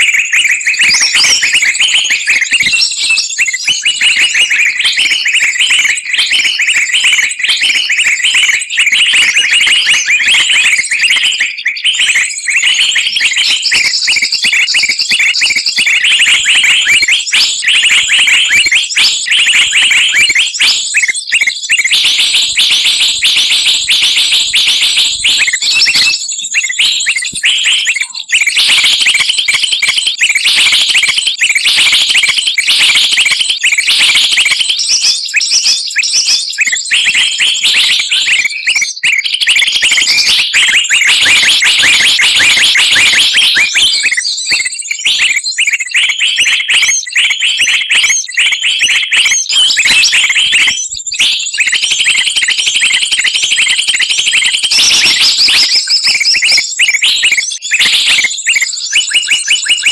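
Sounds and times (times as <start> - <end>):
many songbirds chirping: 0.0 - 59.9.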